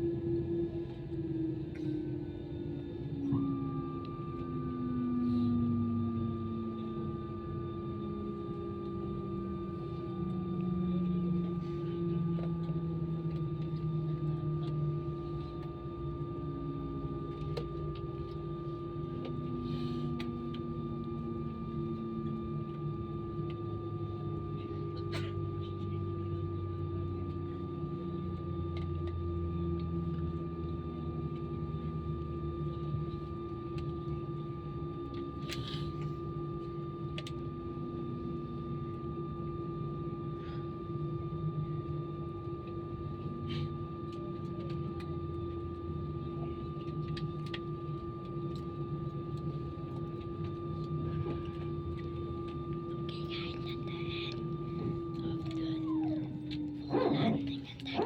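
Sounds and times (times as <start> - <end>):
mechanical hum: 0.0 - 58.0
steady whining tones: 0.0 - 58.0
aircraft cabin rumble: 0.2 - 58.0.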